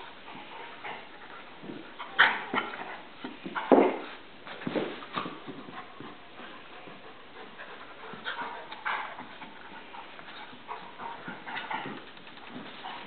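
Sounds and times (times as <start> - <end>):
dogs panting: 0.0 - 4.3, 4.9 - 13.0
dogs scuffling: 0.0 - 13.0.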